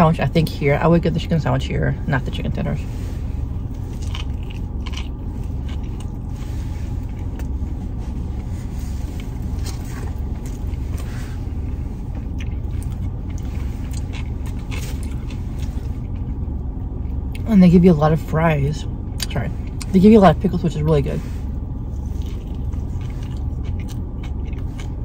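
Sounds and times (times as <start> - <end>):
car interior rumble: 0.0 - 25.0
person chewing crispy food: 2.8 - 17.5, 19.0 - 25.0.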